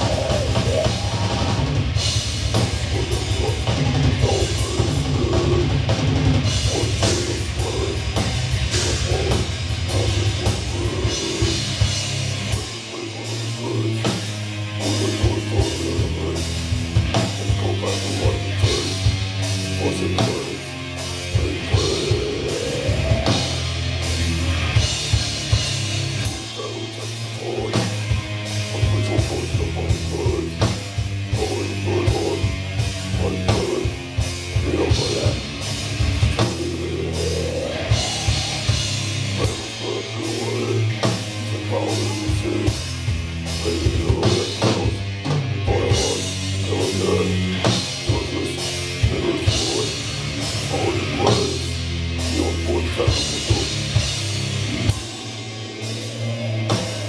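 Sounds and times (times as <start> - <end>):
fast dense drumming: 0.0 - 57.0
heavy metal band playing live: 0.0 - 57.0.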